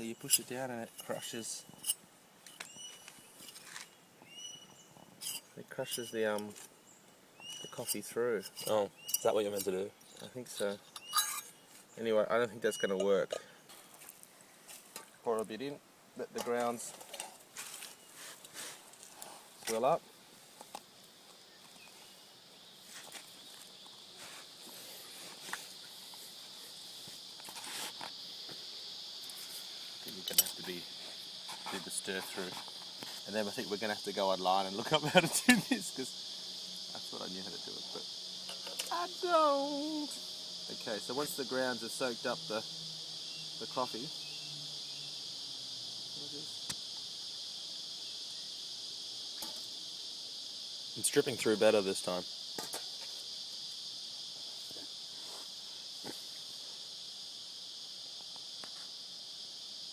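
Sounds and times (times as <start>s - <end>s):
insects buzzing: 0.0s - 59.9s.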